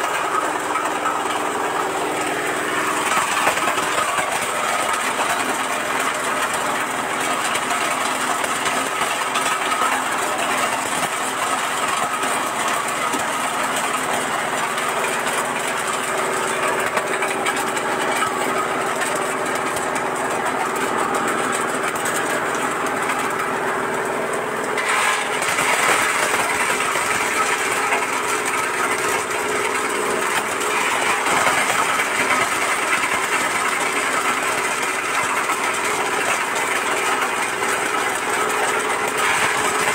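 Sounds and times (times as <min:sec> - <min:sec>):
nut cracking machine running: 0:00.0 - 0:39.9.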